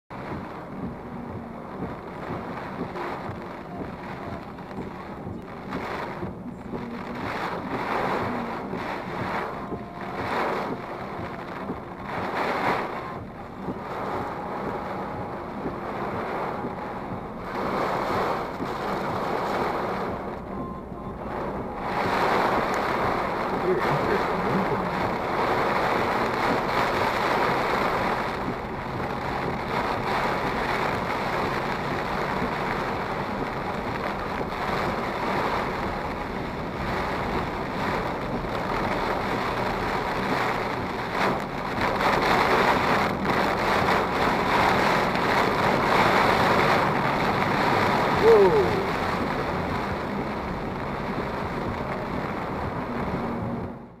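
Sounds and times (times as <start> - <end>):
heavy rain on car body: 0.1 - 54.0
tyres hissing on wet road: 0.1 - 54.0.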